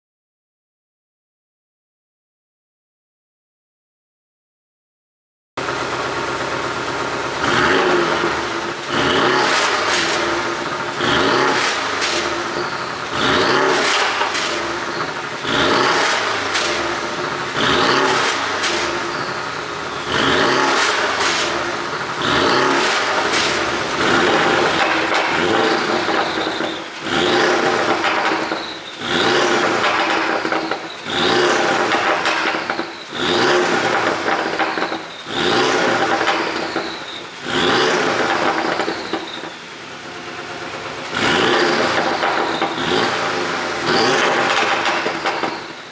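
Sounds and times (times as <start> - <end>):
car engine revving: 5.6 - 45.9
exhaust pops and crackles: 5.6 - 45.9.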